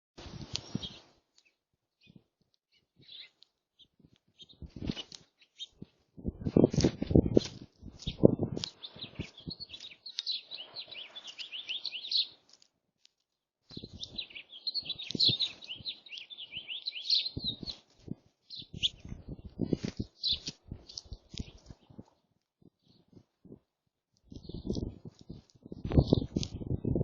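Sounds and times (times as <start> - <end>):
small birds chirping: 0.2 - 27.0.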